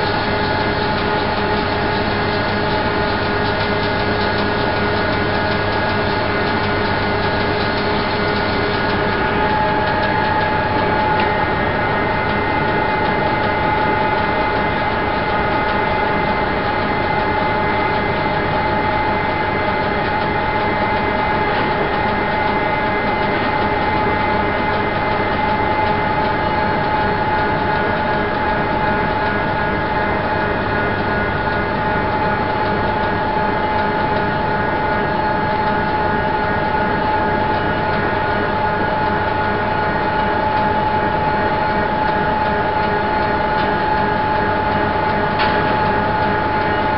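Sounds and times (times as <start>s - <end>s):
constant high whine: 0.0s - 46.9s
heavy machinery drone: 0.0s - 46.9s.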